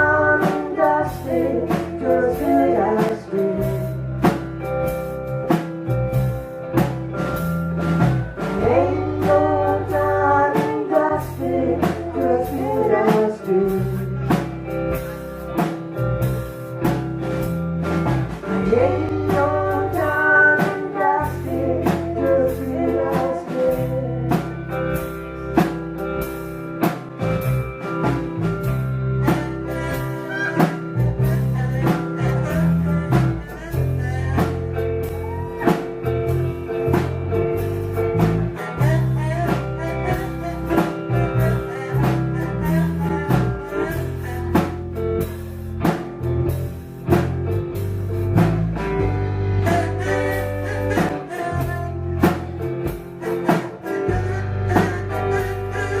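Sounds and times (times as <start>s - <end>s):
bass line: 0.0s - 56.0s
drum kit beat: 0.0s - 56.0s
guitar: 0.0s - 56.0s.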